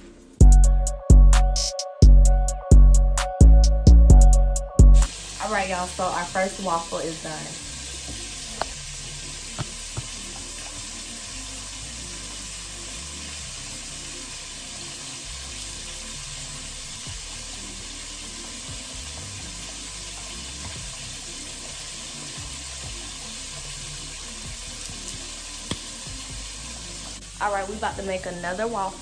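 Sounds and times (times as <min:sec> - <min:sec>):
chicken sizzling in hot oil: 0:05.0 - 0:29.0.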